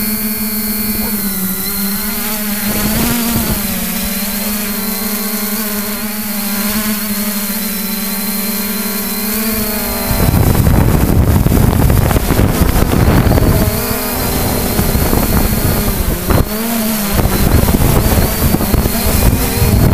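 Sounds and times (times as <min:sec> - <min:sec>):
drone propellers humming: 0:00.0 - 0:19.9
wind buffeting microphone: 0:00.5 - 0:06.0, 0:08.8 - 0:19.9.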